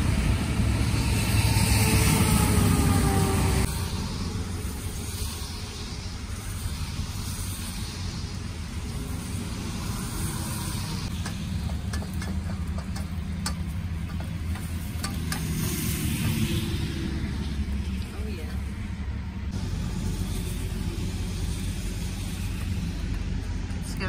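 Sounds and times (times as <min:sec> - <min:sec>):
road traffic roar: 0:00.0 - 0:24.0.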